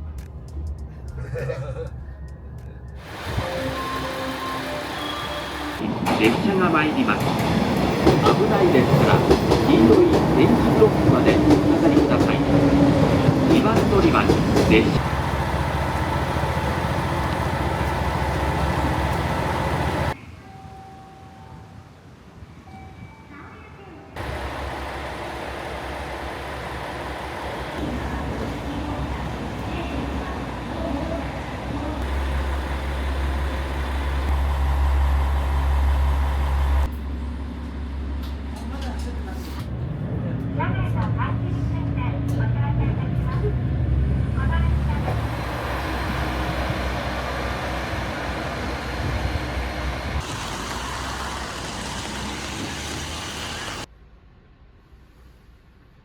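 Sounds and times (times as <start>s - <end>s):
train rumbling on rails: 0.0s - 20.7s, 24.1s - 53.9s.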